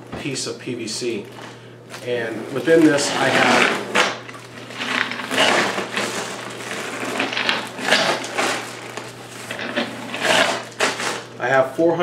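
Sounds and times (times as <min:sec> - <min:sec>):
plastic bags rustling: 0:01.2 - 0:11.4.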